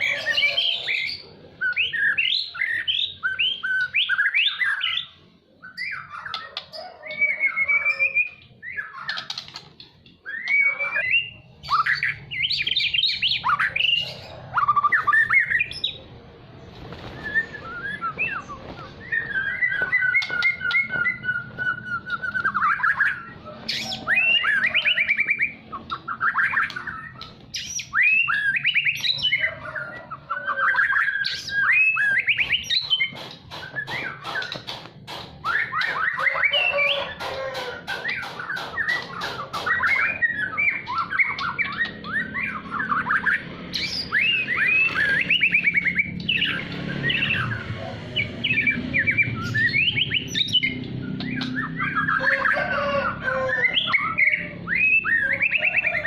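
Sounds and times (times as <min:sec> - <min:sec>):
bird singing whistles and trills: 0:00.0 - 0:09.4, 0:10.2 - 0:16.0, 0:17.0 - 0:29.4, 0:30.0 - 0:34.7, 0:35.4 - 0:37.2, 0:38.1 - 0:56.0.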